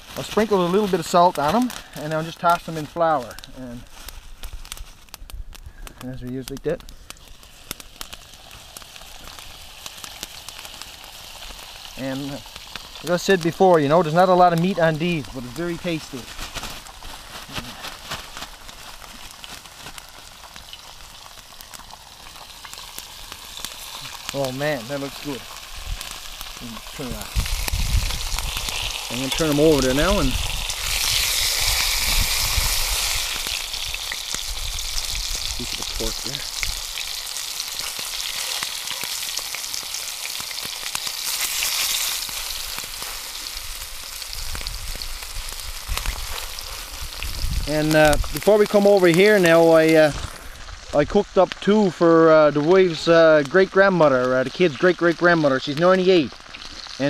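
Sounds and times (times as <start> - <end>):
fish frying in oil: 0.0 - 57.0.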